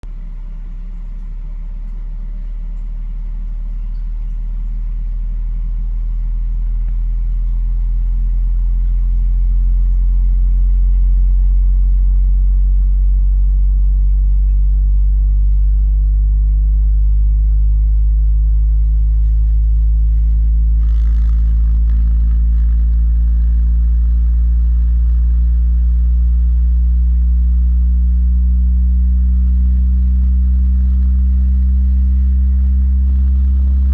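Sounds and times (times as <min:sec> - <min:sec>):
low bass test tone: 0:00.0 - 0:33.9.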